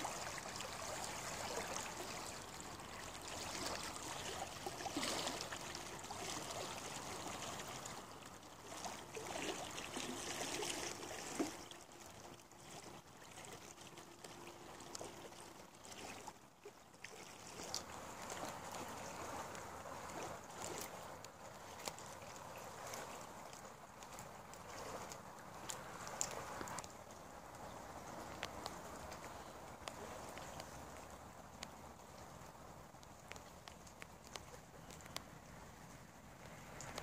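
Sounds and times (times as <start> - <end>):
flowing river water: 0.0 - 37.0.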